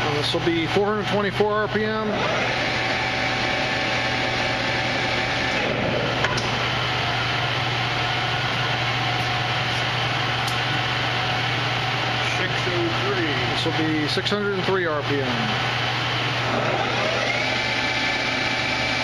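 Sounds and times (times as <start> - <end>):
lathe running with gear whine: 0.0 - 19.0.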